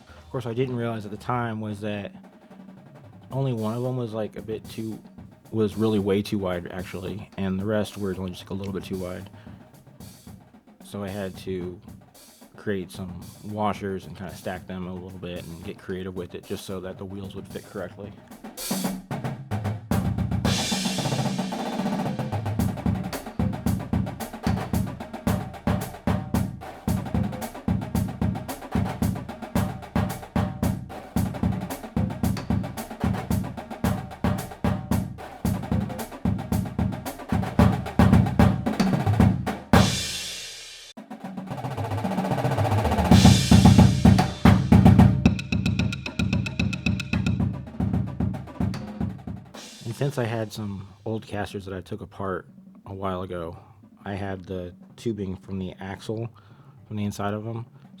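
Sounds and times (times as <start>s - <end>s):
drum-heavy music: 0.0s - 51.4s.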